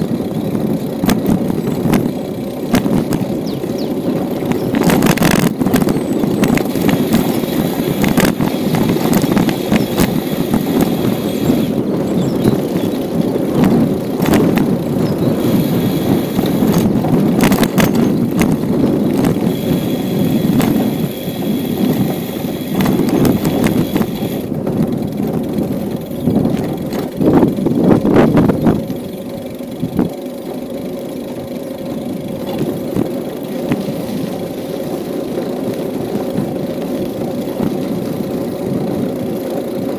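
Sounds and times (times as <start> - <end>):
bicycle tyre rumble: 0.0 - 39.9
bike rattling over bumps: 0.0 - 39.9.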